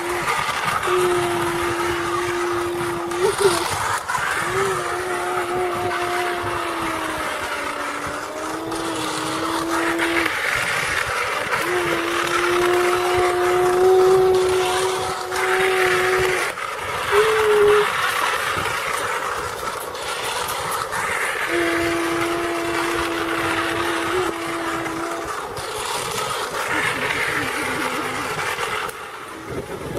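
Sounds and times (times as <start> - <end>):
toy locomotive electronic whistle: 0.0 - 29.9
toy trains whirring rattle: 0.0 - 29.9.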